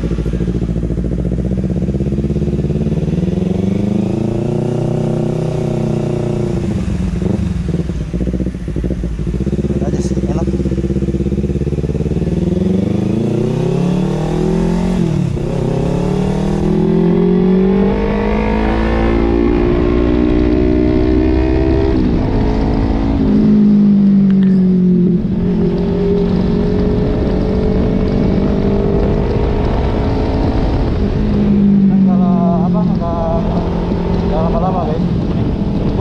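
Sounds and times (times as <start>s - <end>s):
motorcycle engine revving through gears: 0.0s - 36.0s.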